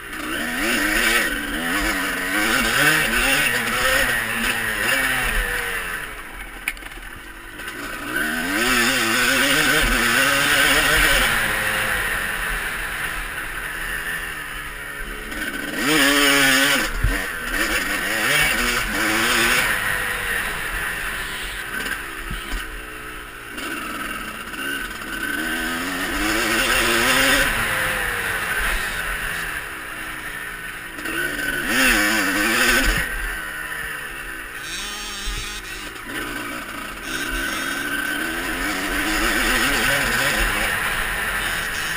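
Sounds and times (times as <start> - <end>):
motorbike passing close: 0.0 - 22.8, 23.5 - 41.9
motocross bike engines revving: 0.0 - 41.9.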